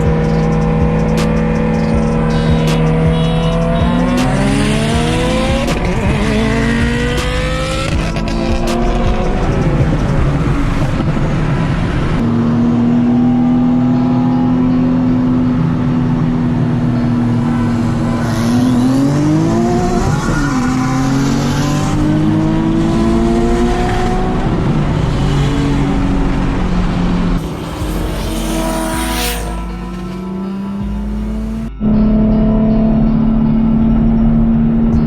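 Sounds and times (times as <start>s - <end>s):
sports car engine under load: 0.0s - 34.8s.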